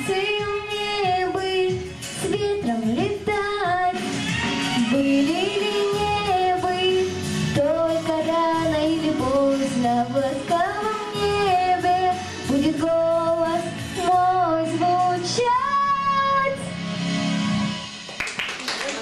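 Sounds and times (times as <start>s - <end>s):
girl singing into microphone: 0.0s - 4.2s, 4.8s - 16.8s
backing track music: 0.0s - 18.6s.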